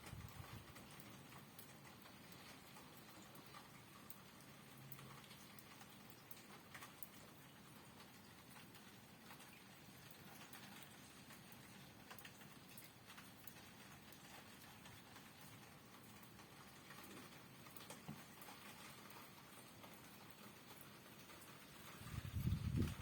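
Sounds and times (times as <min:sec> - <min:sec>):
raindrops tapping: 0:00.0 - 0:23.0
soft rain hiss: 0:00.0 - 0:23.0.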